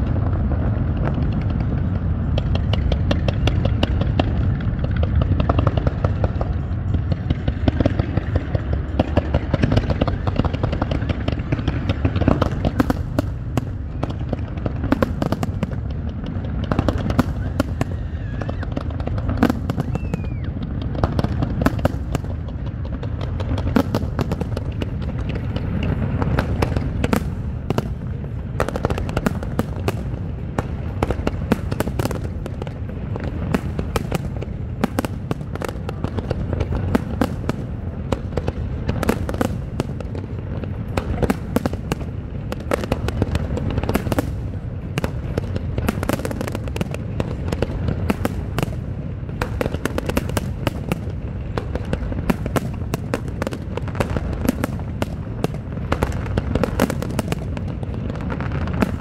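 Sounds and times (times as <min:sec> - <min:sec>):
fireworks bangs and cracks: 0:00.0 - 0:59.0.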